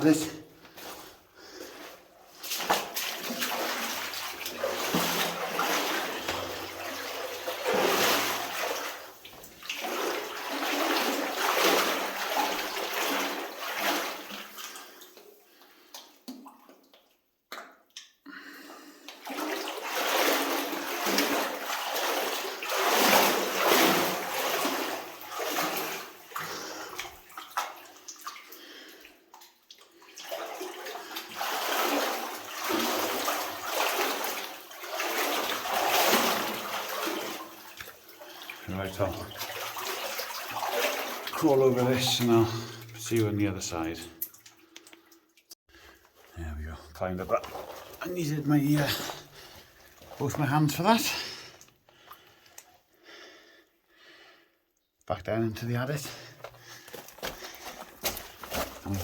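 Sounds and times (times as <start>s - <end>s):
person wading through water: 0.5s - 17.0s, 18.4s - 43.4s, 44.2s - 54.2s, 56.0s - 59.0s.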